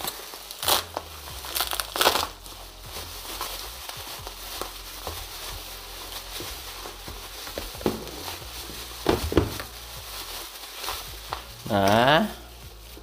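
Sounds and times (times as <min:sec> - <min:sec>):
bubble wrap crinkling and crackling: 0:00.0 - 0:13.0.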